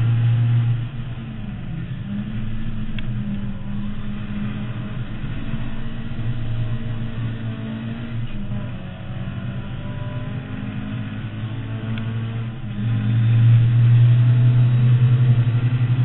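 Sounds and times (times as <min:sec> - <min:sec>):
car engine driven hard: 0:00.0 - 0:16.0.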